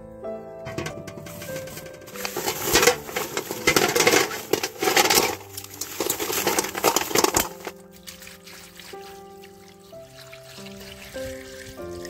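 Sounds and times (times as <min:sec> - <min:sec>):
oyster shells clattering: 0:00.7 - 0:12.0.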